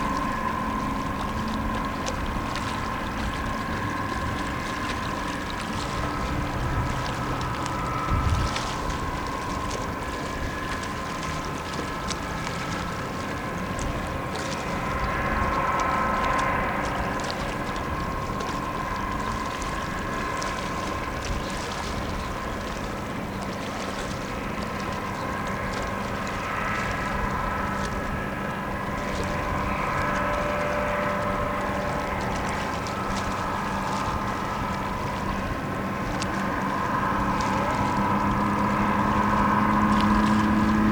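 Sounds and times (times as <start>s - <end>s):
tugboat engines droning: 0.0s - 40.9s.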